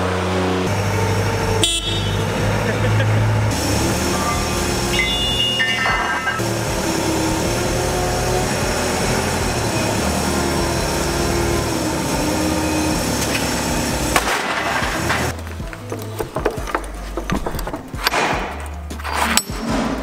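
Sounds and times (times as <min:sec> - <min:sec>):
wheel loader diesel engine: 0:00.0 - 0:20.0.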